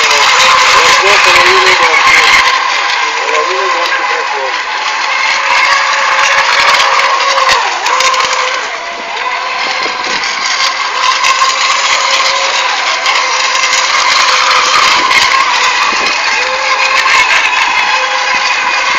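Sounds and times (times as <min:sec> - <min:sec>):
rc boat motor whine: 0:00.0 - 0:18.9.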